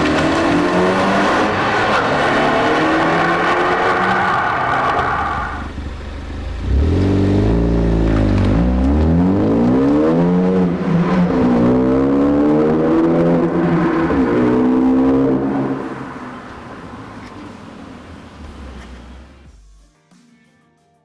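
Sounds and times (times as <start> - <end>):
car engine accelerating: 0.0 - 19.5.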